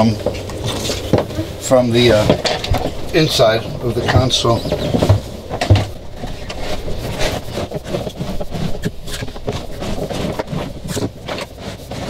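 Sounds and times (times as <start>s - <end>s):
cables scraping against fiberglass: 0.0s - 12.0s
knocks and rustles: 0.0s - 12.0s.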